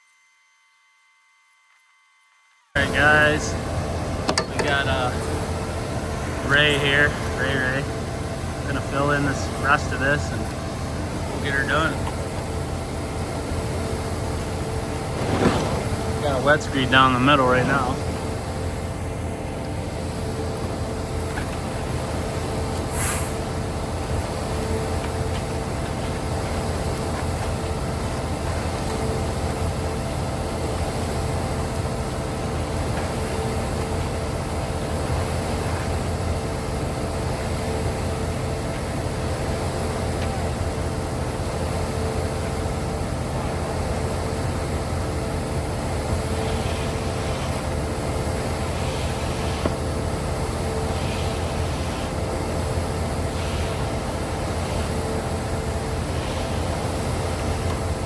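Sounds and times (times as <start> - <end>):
concrete pump engine running: 2.8 - 58.0.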